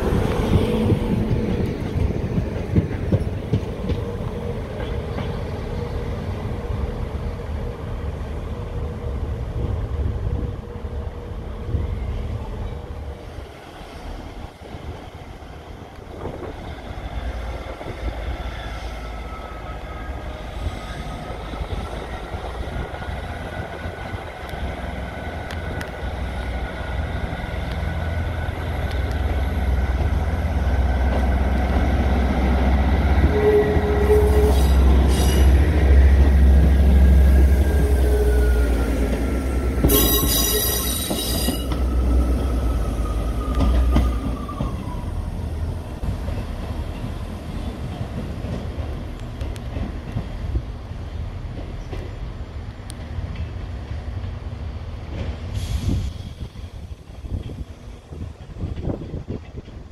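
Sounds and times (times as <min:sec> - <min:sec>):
diesel train engine rumble: 0:00.0 - 0:59.9.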